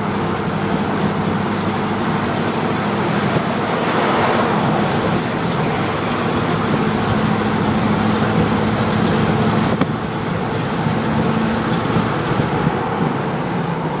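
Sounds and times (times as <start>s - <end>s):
engine hum under throttle: 0.0s - 14.0s
exhaust rattle: 0.0s - 14.0s
road noise: 0.0s - 14.0s.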